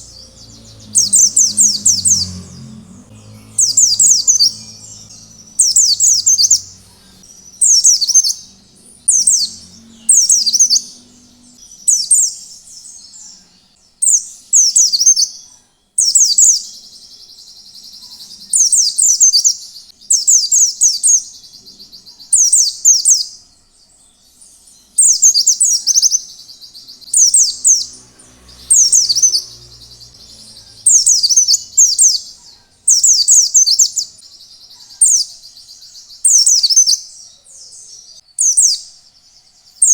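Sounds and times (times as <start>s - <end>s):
buzzy bird trill: 0.0s - 23.4s, 24.4s - 39.9s
bird twittering song: 0.0s - 39.9s.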